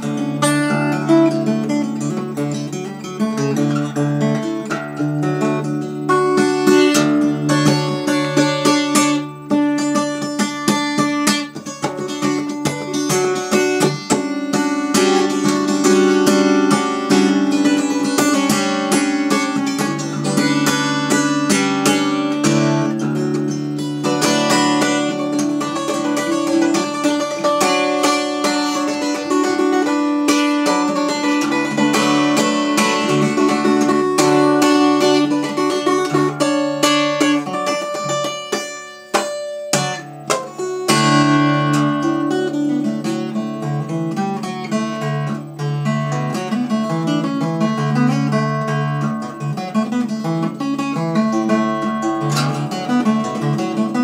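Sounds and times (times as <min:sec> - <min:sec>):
acoustic guitar picking and strumming: 0:00.0 - 0:54.0.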